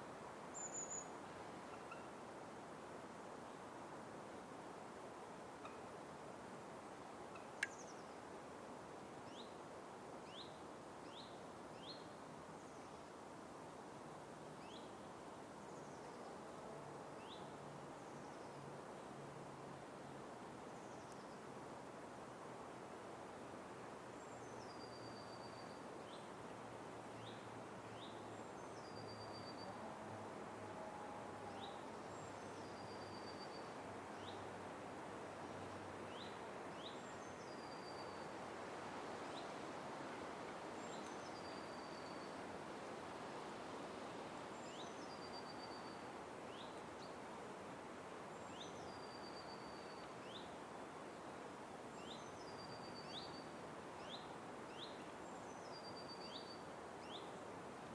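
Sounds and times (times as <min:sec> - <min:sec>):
background hiss: 0:00.0 - 0:57.9.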